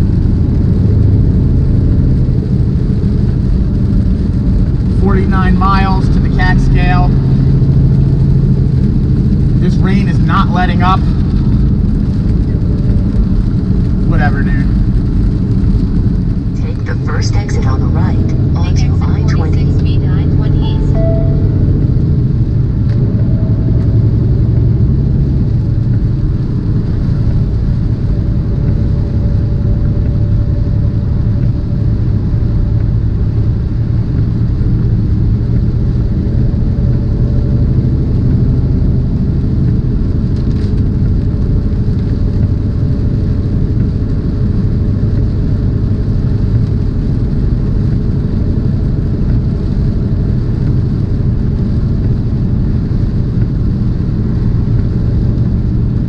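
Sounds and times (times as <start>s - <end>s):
diesel truck engine rumble: 0.0s - 56.0s.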